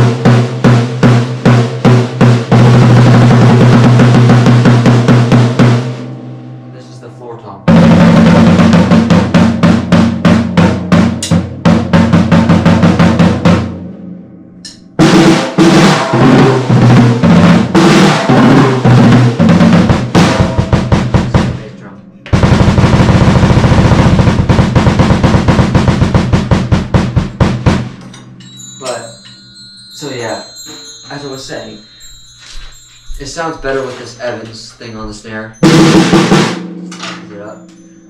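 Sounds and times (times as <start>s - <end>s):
floor tom drum strokes: 0.0s - 14.1s, 15.0s - 28.0s, 30.0s - 38.0s.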